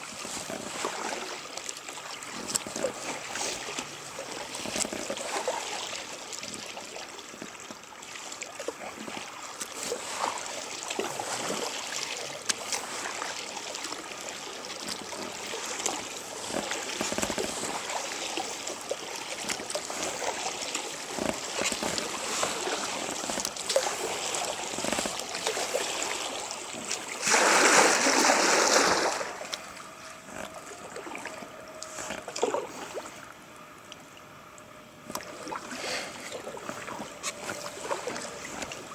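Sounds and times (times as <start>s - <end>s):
kayak paddle splashing in water: 0.0s - 38.9s
water dripping off paddle: 0.2s - 38.9s.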